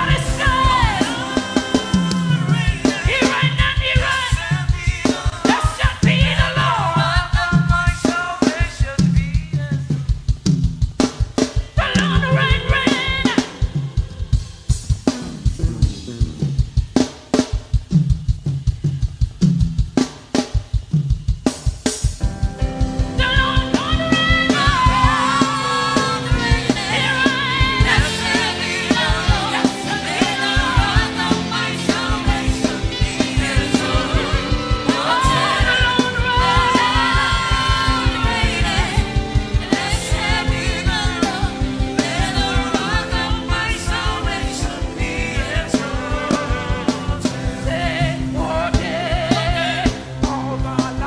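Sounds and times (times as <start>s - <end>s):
gospel singing with band: 0.0s - 17.5s, 22.2s - 51.0s
fast drum beat: 0.0s - 51.0s.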